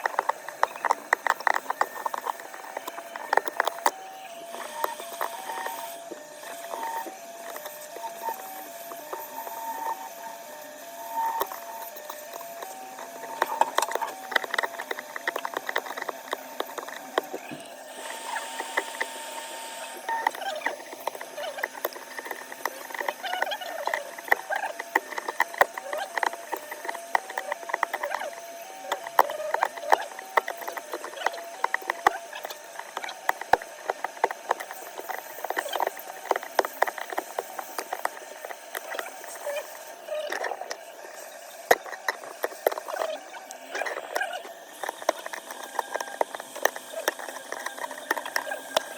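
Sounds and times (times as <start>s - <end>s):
small tools clicking and scraping: 0.0s - 48.9s.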